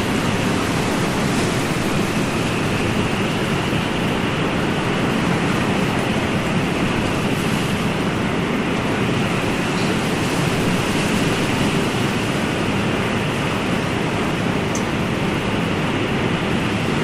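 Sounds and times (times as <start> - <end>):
ocean waves rushing: 0.0 - 17.0.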